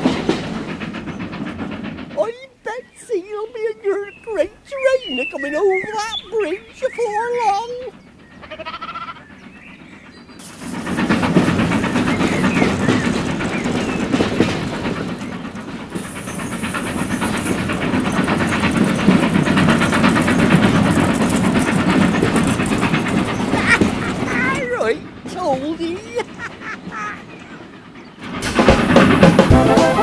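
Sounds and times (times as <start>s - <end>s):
steam hiss: 0.0s - 30.0s
train wheels clattering on rails: 0.0s - 30.0s.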